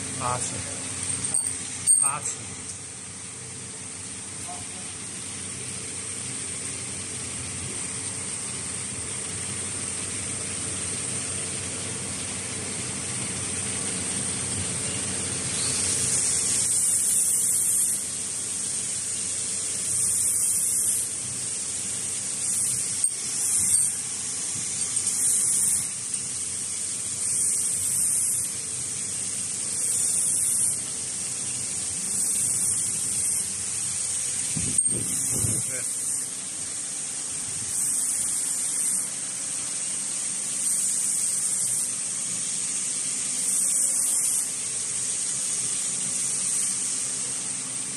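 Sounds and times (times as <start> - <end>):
bursts of louder hiss: 0.0 - 47.9
machinery hiss with high whine: 0.0 - 47.9.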